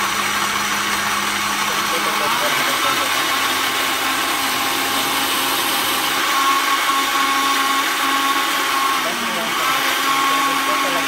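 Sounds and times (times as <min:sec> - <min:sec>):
blender motor whirring: 0:00.0 - 0:11.0.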